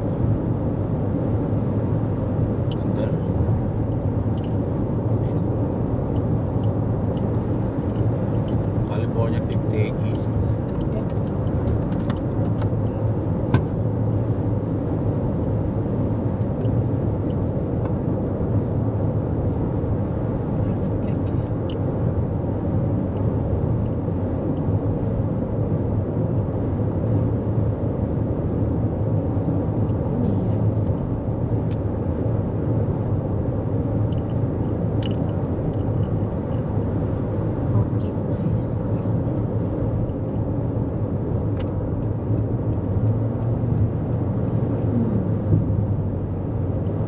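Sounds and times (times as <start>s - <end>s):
road and tyre rumble: 0.0s - 47.0s.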